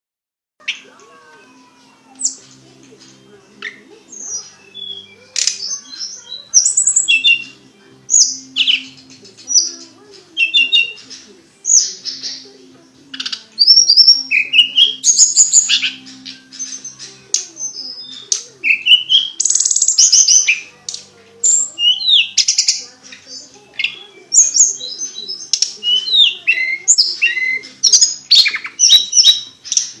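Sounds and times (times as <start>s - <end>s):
songbird singing: 0.6s - 30.0s.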